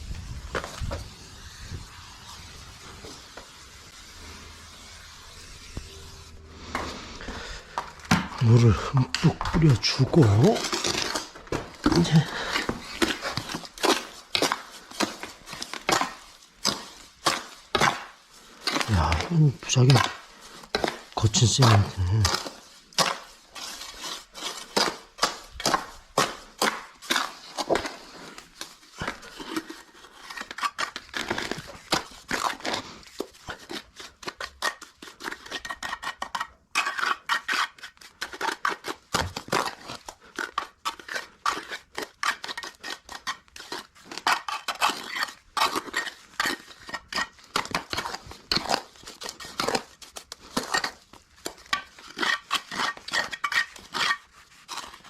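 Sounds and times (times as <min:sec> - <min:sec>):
trowel scraping wet mortar: 0:00.1 - 0:55.0.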